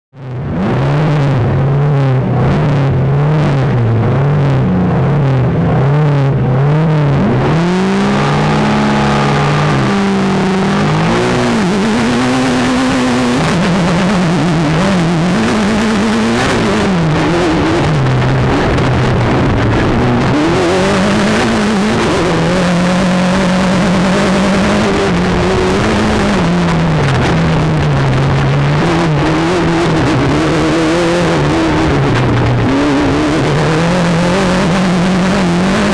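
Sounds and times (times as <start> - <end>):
race car engine revving: 0.2 - 35.9.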